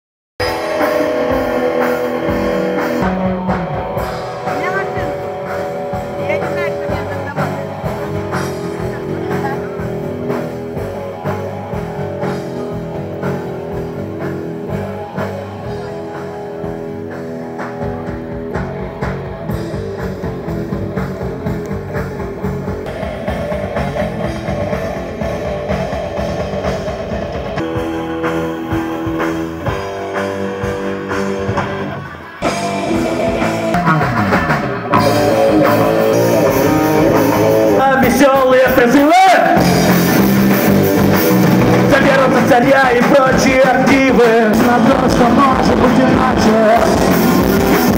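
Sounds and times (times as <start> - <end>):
rock band playing live: 0.4 - 47.9.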